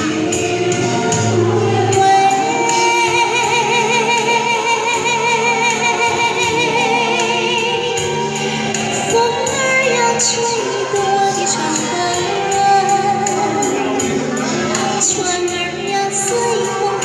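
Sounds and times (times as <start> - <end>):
backing track music: 0.0 - 17.0
woman singing a slow ballad: 0.0 - 17.0.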